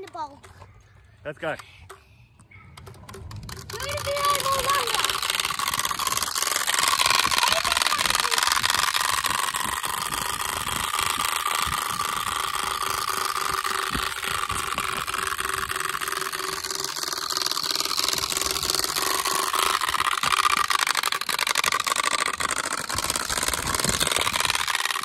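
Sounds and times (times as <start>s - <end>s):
bicycle tyres rolling on concrete: 0.0s - 1.8s, 2.4s - 25.0s
fast mechanical ticking: 2.7s - 25.0s.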